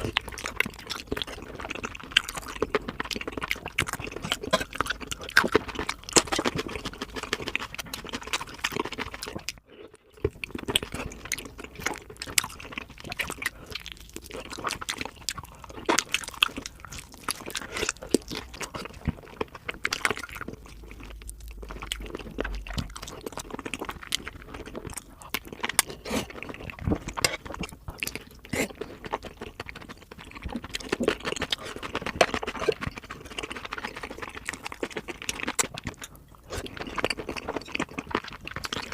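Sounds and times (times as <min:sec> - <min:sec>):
crunching fried chicken: 0:00.0 - 0:38.9
wet chewing: 0:00.0 - 0:38.9.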